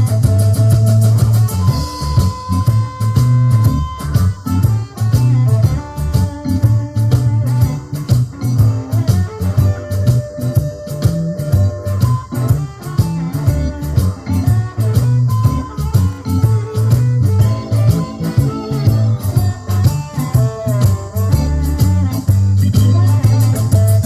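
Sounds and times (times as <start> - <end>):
bass: 0.0 - 24.0
drums: 0.0 - 24.0
electric guitar: 0.0 - 24.0.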